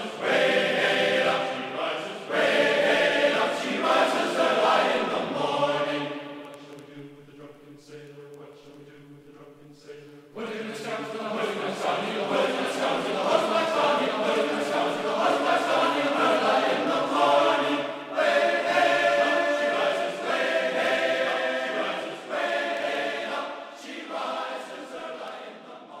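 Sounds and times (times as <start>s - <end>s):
choir singing sustained phrases: 0.0s - 26.0s.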